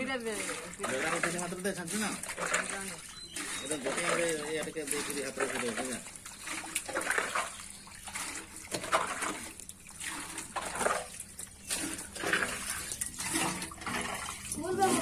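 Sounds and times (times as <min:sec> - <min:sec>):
fish thrashing and splashing: 0:00.0 - 0:15.0.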